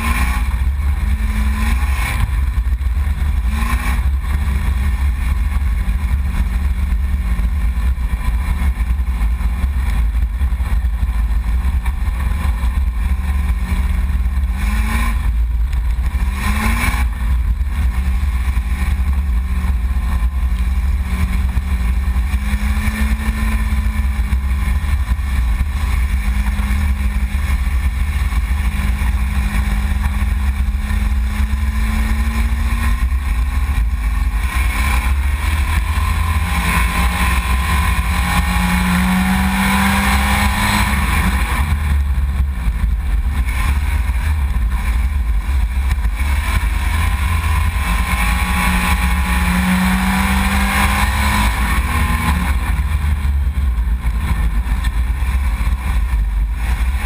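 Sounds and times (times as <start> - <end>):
engine throttle blips: 0.0 - 57.0
race car engine rumbling: 0.0 - 57.0.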